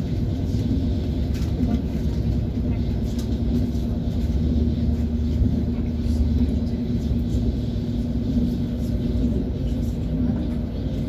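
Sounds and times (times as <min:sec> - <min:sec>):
electric train rumble and hum: 0:00.0 - 0:11.0.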